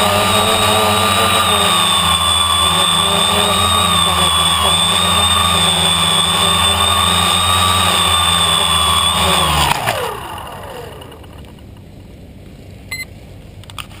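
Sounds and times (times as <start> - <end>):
electric motors whining: 0.0 - 12.1.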